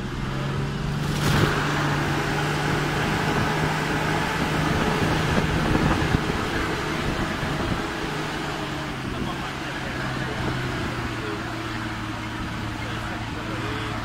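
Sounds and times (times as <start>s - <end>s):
road and rattle noise: 0.0s - 14.0s
vehicle engine humming: 0.0s - 14.0s.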